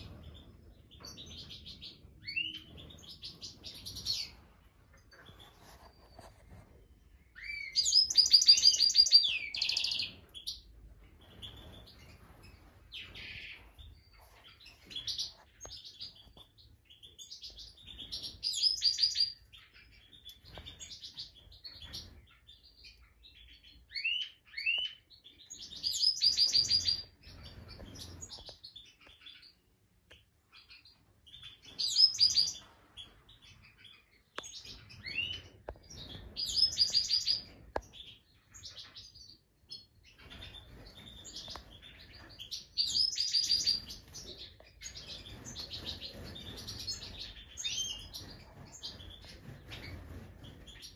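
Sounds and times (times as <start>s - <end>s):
birds chirping and twittering: 0.0s - 50.9s.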